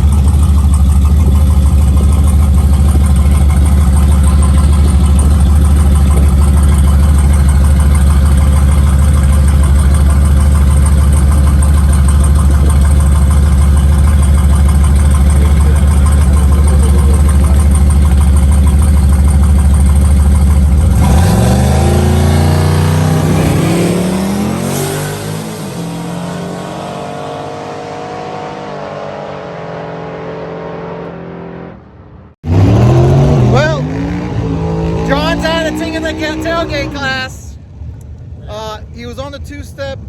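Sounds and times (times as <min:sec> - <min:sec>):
pickup truck engine revving: 0:00.0 - 0:38.4.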